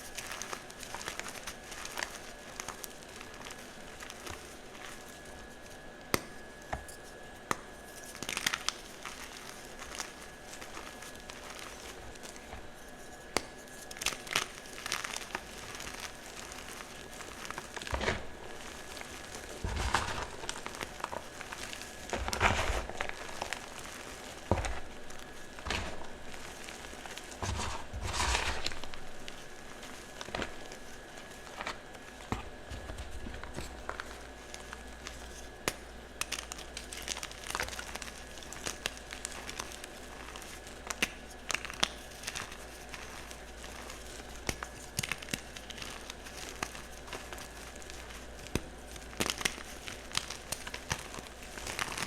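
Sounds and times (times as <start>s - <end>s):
chalk crunching and crumbling: 0.0s - 52.0s.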